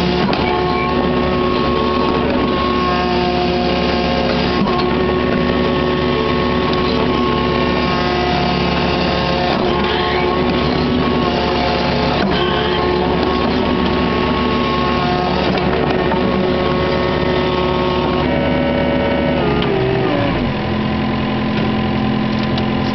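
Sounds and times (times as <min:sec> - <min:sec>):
diesel engine running under load: 0:00.0 - 0:22.9
hydraulics whining: 0:00.0 - 0:22.9.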